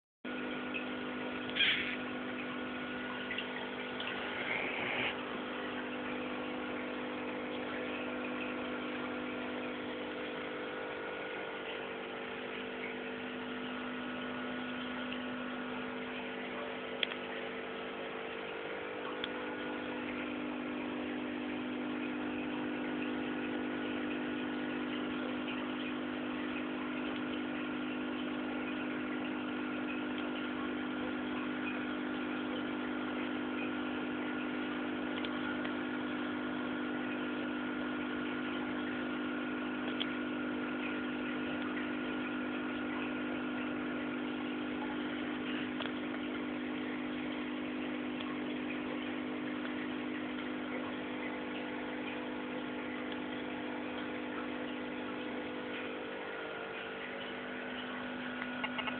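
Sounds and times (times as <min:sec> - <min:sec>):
aquarium pump humming: 0:00.2 - 0:58.9.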